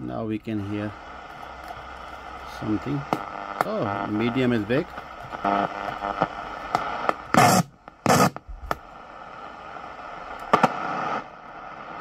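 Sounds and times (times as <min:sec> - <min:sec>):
radio static hissing: 0:00.0 - 0:12.0
loud crackling bursts: 0:00.8 - 0:12.0.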